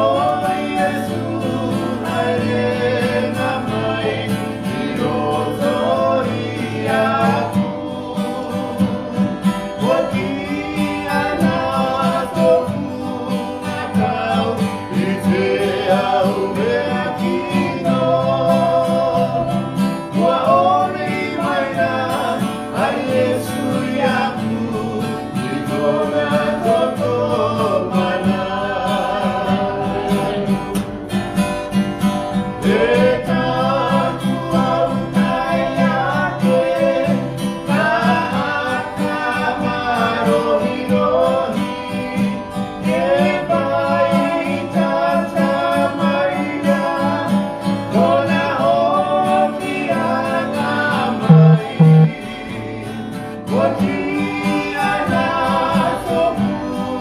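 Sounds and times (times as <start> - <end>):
people singing a hymn: 0.0 - 57.0
strummed guitar: 0.0 - 57.0.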